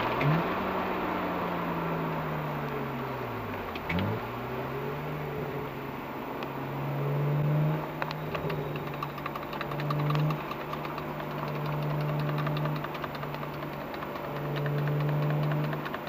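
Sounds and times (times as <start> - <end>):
car engine running at low speed: 0.0 - 16.0.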